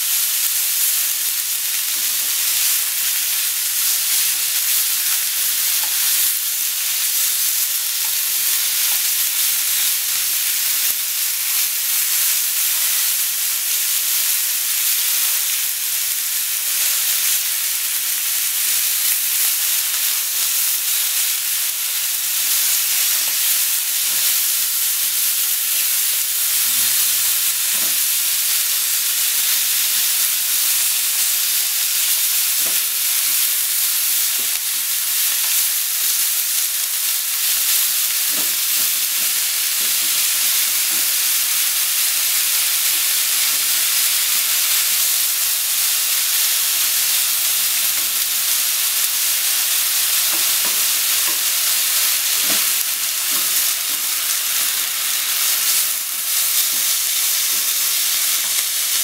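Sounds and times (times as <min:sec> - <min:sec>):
meat sizzling in a frying pan: 0:00.0 - 0:59.0.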